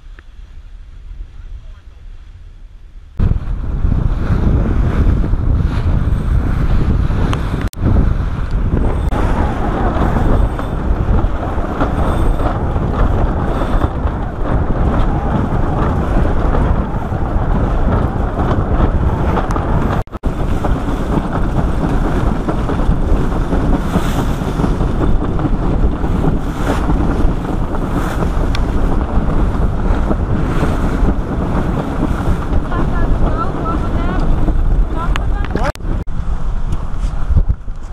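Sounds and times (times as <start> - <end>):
waves rushing along hull: 0.0 - 37.9
wind buffeting microphone: 0.0 - 37.9.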